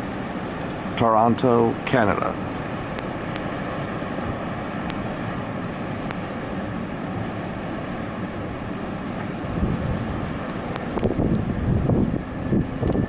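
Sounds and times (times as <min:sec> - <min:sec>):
waterfall roaring: 0:00.0 - 0:11.8.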